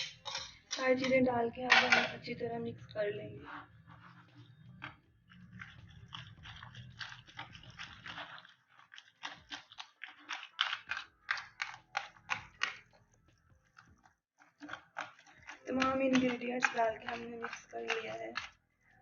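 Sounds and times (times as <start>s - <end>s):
egg mixture stirred in a bowl: 3.5s - 19.0s.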